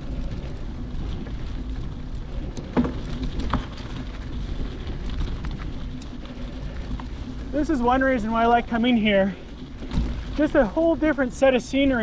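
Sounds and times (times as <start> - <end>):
bike rattling over bumps: 0.0 - 12.0
bike rolling on dirt trail: 0.0 - 12.0.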